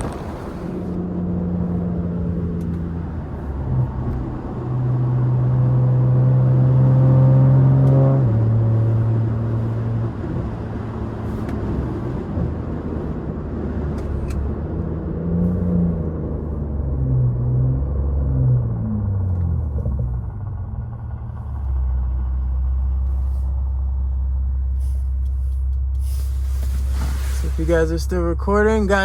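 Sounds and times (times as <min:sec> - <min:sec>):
car engine pulling under load: 0:00.0 - 0:29.0.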